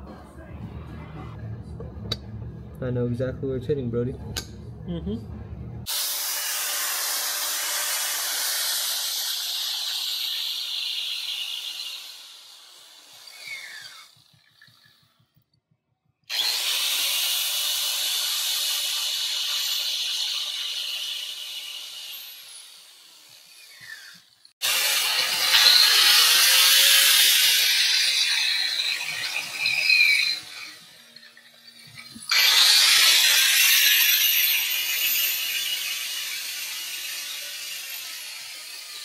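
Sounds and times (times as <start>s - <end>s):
angle grinder grinding metal: 5.8s - 15.0s, 16.3s - 39.0s.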